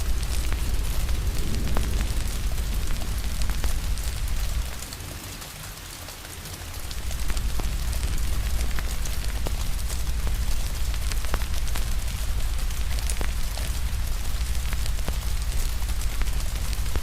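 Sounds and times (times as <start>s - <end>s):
deep rumble: 0.0s - 5.4s, 6.7s - 17.0s
steady rain hiss: 0.0s - 17.0s
wood fire crackling: 0.0s - 17.0s.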